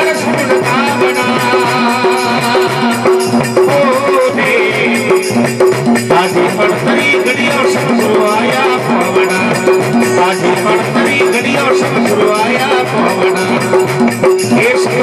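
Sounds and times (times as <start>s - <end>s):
shaken rattle percussion: 0.0s - 15.0s
steady drum beat: 0.0s - 15.0s.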